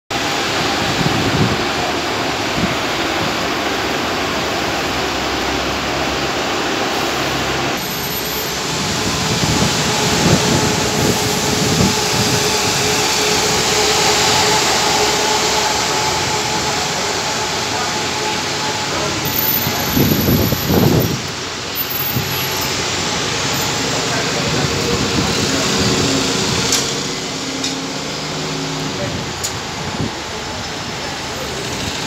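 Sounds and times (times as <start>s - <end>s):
bus engine whining: 0.1s - 32.0s
buses running: 0.1s - 32.0s.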